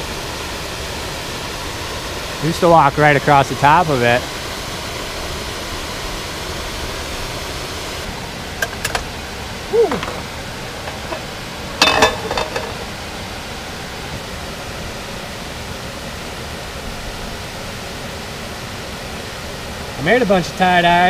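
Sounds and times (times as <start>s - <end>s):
stream water rushing over dam: 0.0s - 21.0s.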